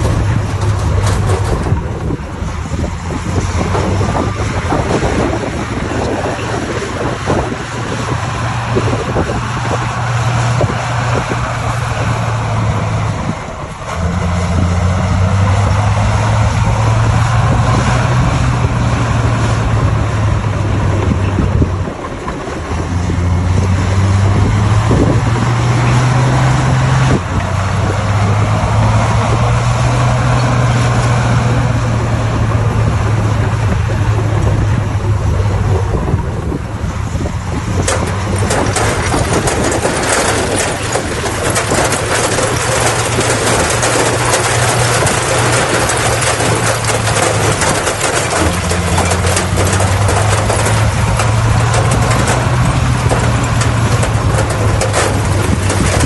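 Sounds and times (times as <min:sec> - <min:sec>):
grinding rattling of pushed stone: 0:00.0 - 0:32.4, 0:37.4 - 0:56.0
bulldozer diesel engine under load: 0:00.0 - 0:56.0.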